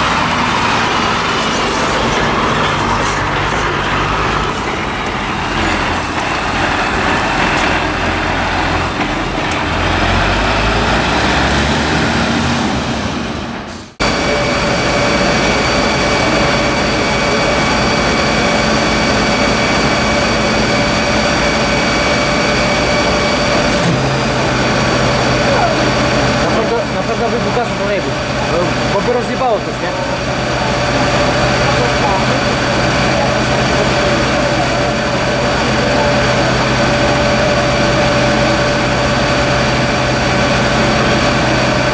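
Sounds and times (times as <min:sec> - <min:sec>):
diesel engines running: 0:00.0 - 0:41.9
engine whine: 0:00.0 - 0:41.9.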